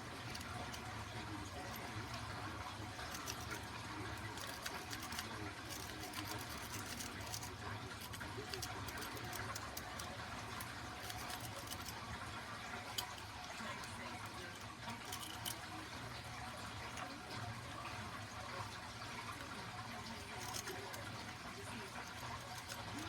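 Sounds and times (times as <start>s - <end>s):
lock pick clicking and scratching: 0.0s - 17.1s, 20.0s - 21.4s, 22.0s - 23.0s.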